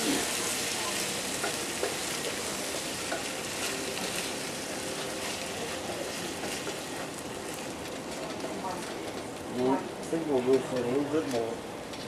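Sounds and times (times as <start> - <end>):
onions sizzling in a frying pan: 0.0 - 11.6.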